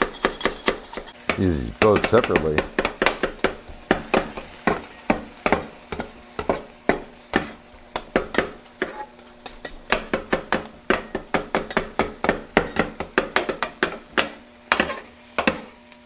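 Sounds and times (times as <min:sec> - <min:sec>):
metal spatulas striking griddle: 0:00.0 - 0:15.8
frying sizzle: 0:00.0 - 0:16.0.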